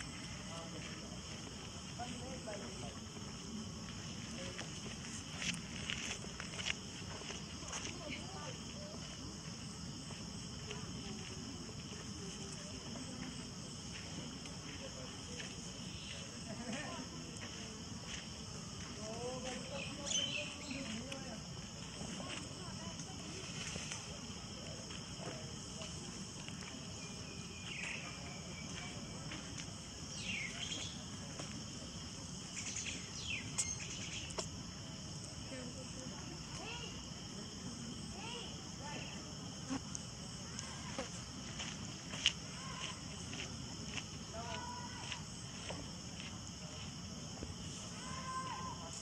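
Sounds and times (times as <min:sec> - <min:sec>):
insects chorus: 0:00.0 - 0:49.0.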